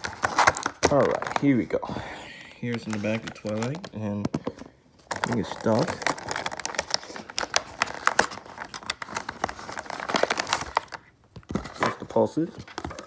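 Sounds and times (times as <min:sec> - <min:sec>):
packaging crinkling: 0:00.0 - 0:01.8, 0:02.6 - 0:13.0.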